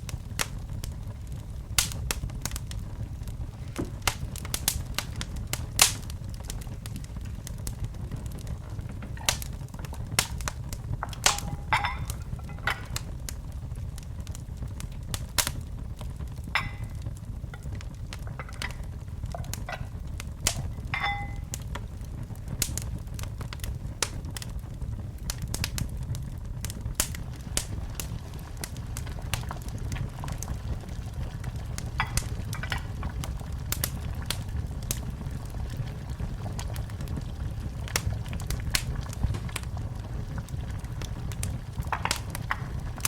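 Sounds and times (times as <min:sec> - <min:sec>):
low rumble of flames: 0:00.0 - 0:43.0
sharp pops from fire: 0:00.0 - 0:43.0
wood fire crackling: 0:00.0 - 0:43.0.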